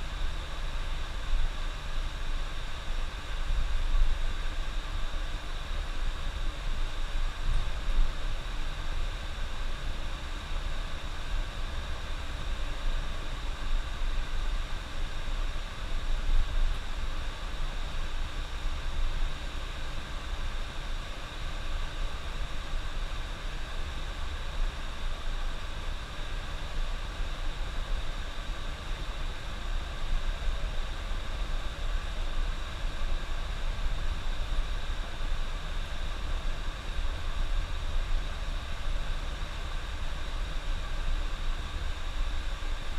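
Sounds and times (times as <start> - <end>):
constant hiss: 0.0 - 42.9.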